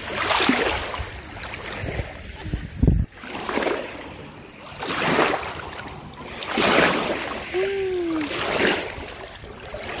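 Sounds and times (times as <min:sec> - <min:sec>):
waves washing on shore: 0:00.0 - 0:10.0.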